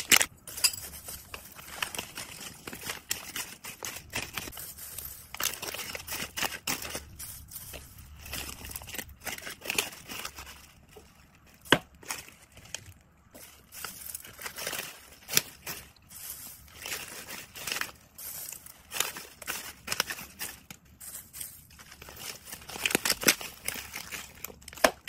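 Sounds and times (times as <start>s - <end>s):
dried herbs crackling and rustling: 0.0s - 25.0s.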